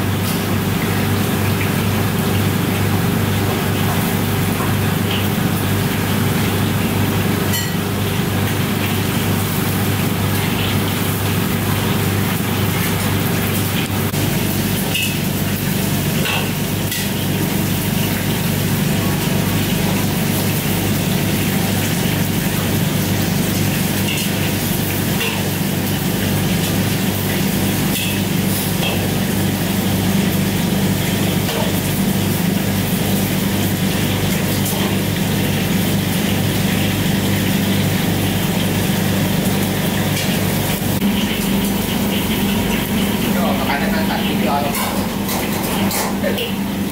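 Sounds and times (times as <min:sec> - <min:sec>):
chicken sizzling in hot oil: 0:00.0 - 0:46.9.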